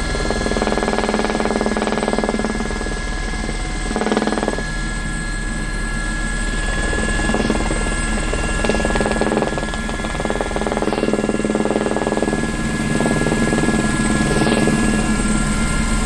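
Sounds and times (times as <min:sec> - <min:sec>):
helicopter rotor beat: 0:00.0 - 0:16.0
helicopter turbine whine: 0:00.0 - 0:16.0.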